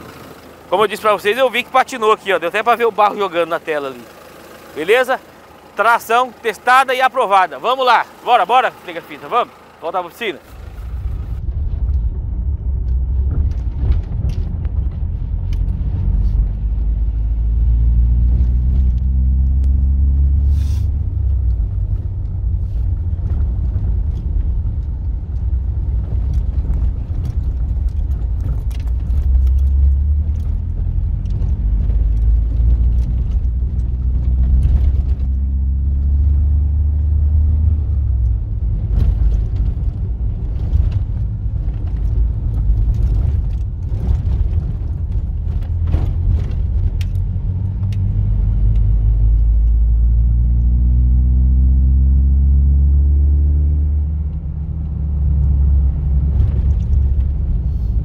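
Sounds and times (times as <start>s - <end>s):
diesel engine accelerating: 0.0s - 58.0s
road rumble: 0.0s - 58.0s.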